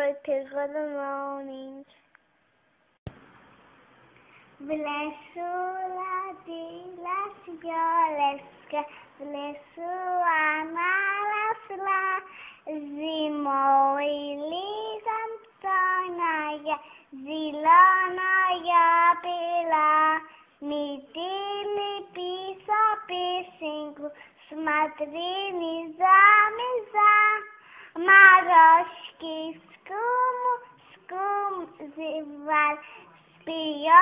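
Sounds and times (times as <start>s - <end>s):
child singing: 0.0s - 2.0s, 4.6s - 34.0s.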